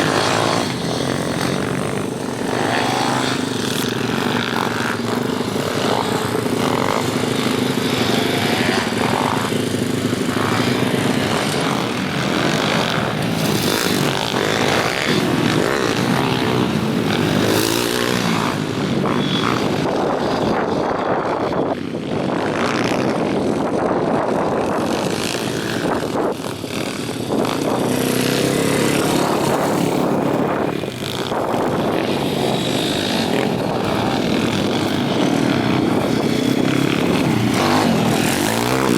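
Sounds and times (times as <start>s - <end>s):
small motorbike engines revving: 0.0s - 38.9s.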